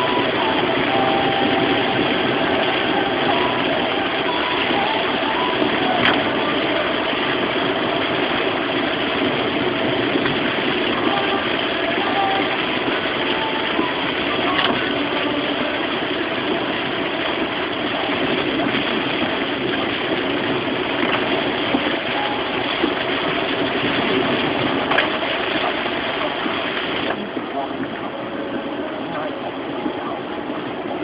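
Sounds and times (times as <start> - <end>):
car engine running: 0.0 - 31.0
heavy rain: 0.0 - 31.0
wet road noise: 0.0 - 31.0.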